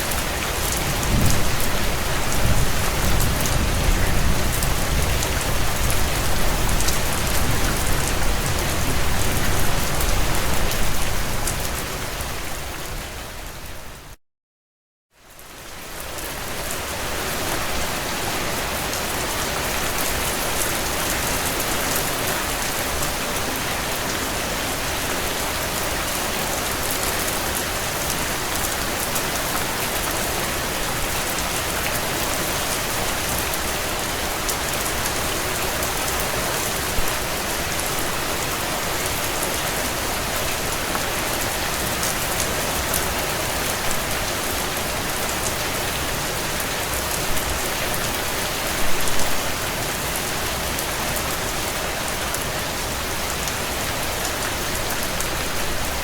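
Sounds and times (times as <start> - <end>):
heavy rain on a tin roof: 0.0 - 14.2, 15.2 - 56.0.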